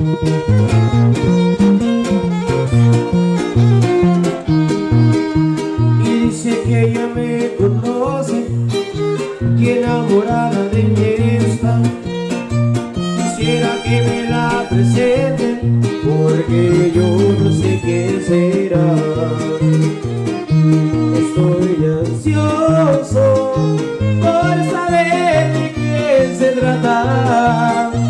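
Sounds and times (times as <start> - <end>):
plucked bass notes: 0.0 - 28.0
strummed guitars: 0.0 - 28.0
violin melody: 0.0 - 28.0.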